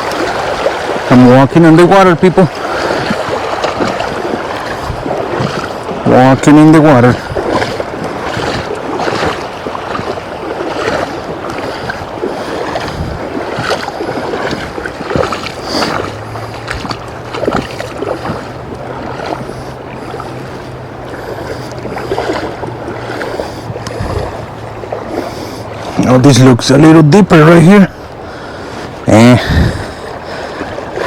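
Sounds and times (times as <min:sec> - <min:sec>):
water sloshing from wading: 0:00.0 - 0:31.0.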